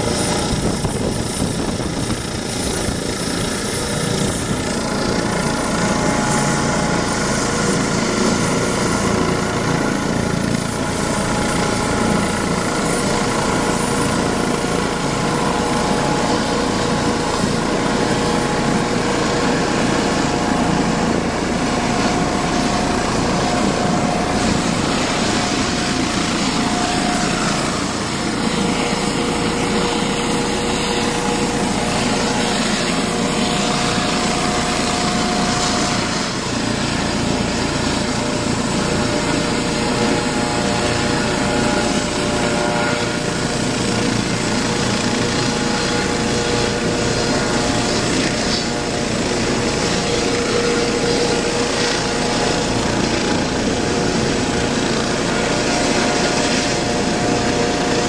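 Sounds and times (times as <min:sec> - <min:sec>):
helicopter turbine whine and rotor: 0:00.0 - 0:58.0.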